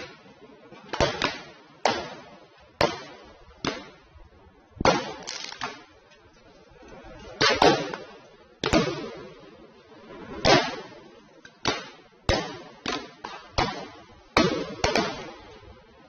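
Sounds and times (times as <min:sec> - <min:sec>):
fireworks exploding: 0:00.0 - 0:06.1, 0:07.4 - 0:15.9.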